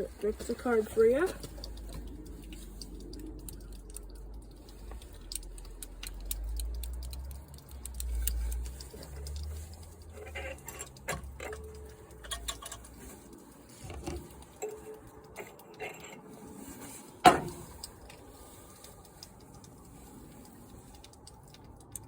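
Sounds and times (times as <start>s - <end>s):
low uneven rumble: 0.0s - 21.8s
light clicks and taps: 0.0s - 22.0s.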